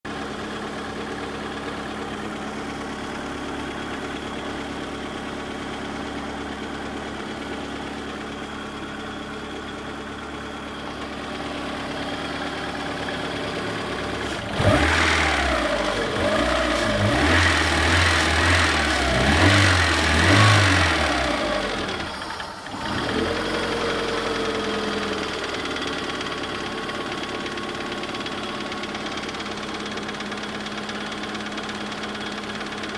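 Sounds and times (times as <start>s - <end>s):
car engine idling and revving: 0.1s - 32.9s
engine knocking: 0.1s - 32.9s.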